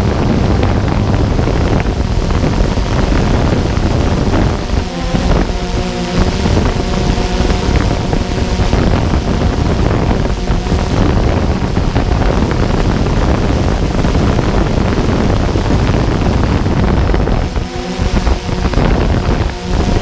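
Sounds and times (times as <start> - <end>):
steady motor noise: 0.0 - 20.0
wind buffeting microphone: 0.0 - 20.0.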